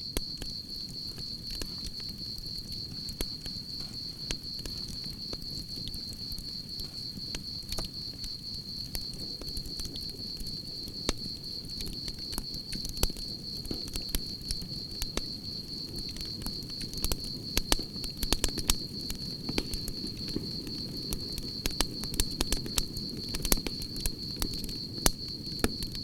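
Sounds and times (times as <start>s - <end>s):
crickets chirping: 0.0s - 26.0s
campfire crackling and popping: 0.1s - 26.0s.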